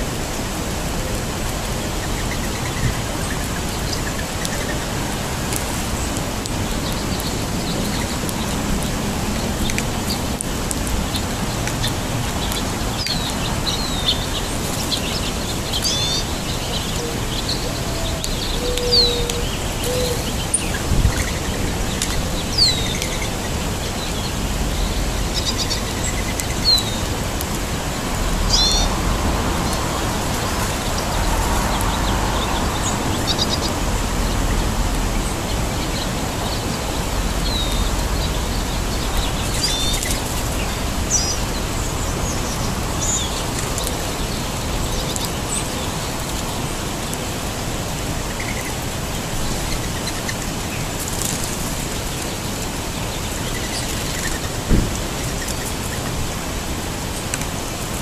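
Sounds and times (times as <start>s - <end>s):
outdoor background hiss: 0.0s - 58.0s
small songbirds chirping: 0.0s - 58.0s.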